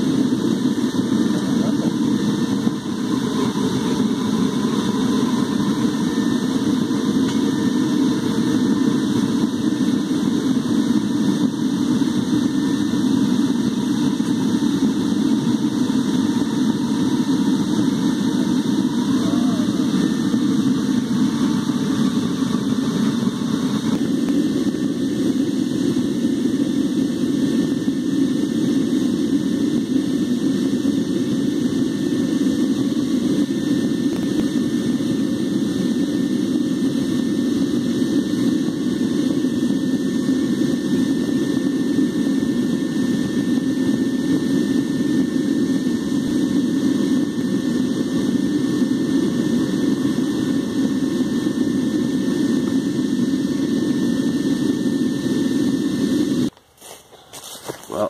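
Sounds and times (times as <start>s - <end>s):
faint high whine: 0.0s - 58.0s
furnace burner and blower rushing: 0.0s - 58.0s.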